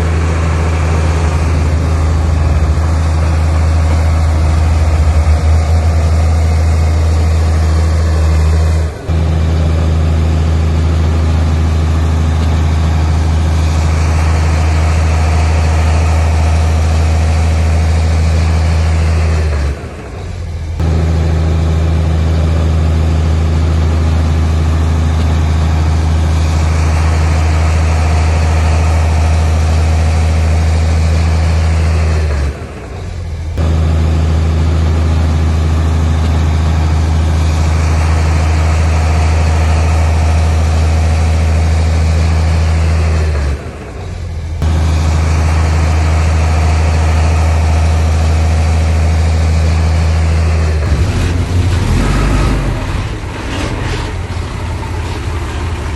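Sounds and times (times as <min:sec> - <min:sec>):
heavy diesel engine humming: 0:00.0 - 0:55.9.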